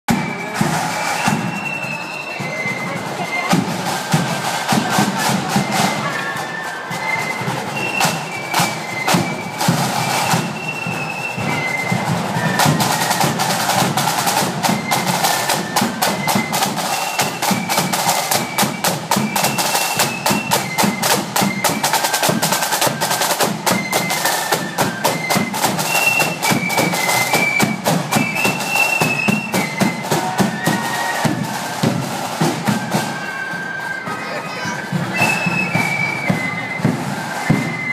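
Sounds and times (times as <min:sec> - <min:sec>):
flutes playing high melody: 0:00.1 - 0:37.9
rattling snare drums: 0:00.1 - 0:37.9.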